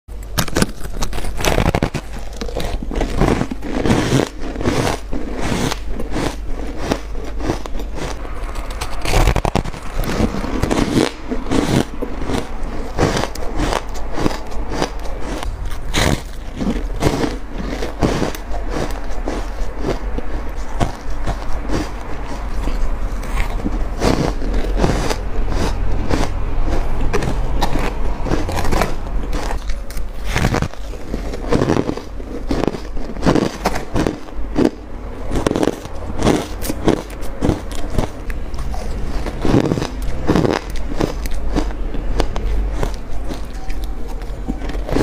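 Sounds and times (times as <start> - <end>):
person crunching ice: 0.1 - 45.0.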